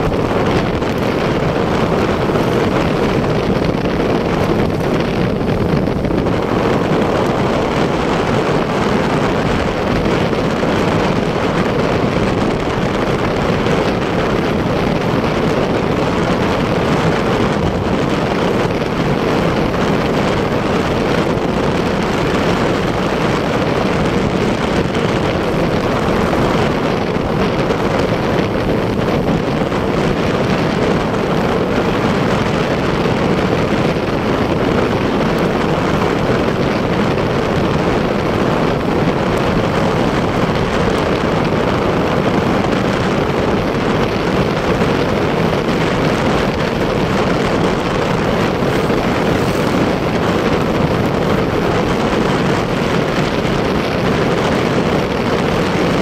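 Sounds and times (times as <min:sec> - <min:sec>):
motorcycle engine cruising: 0:00.0 - 0:56.0
wind rush over microphone: 0:00.0 - 0:56.0.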